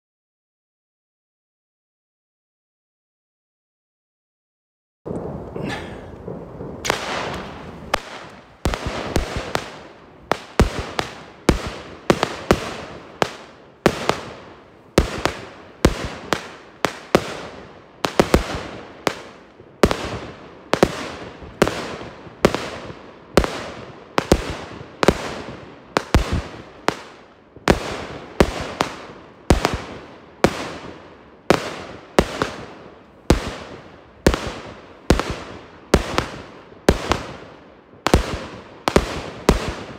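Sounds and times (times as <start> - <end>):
firework bangs: 5.1 - 39.9.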